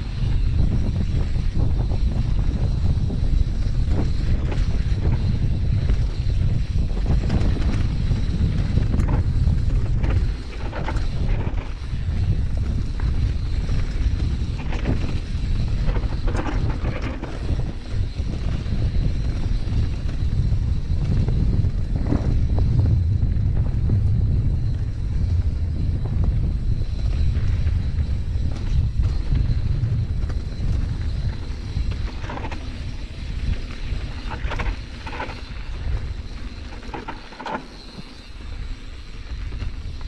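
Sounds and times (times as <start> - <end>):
wind buffeting microphone: 0.0 - 40.0
bike knocks and rattles: 0.9 - 38.4.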